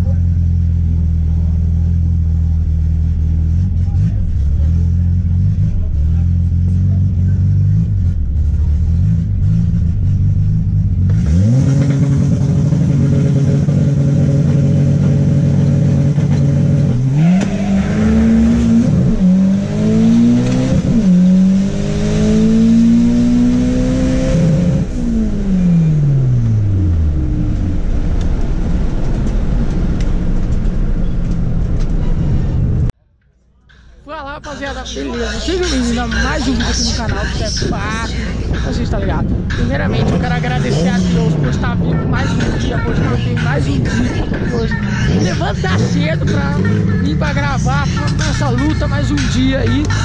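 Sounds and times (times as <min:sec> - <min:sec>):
turbocharged car engine revving: 0:00.0 - 0:32.9, 0:35.5 - 0:50.0.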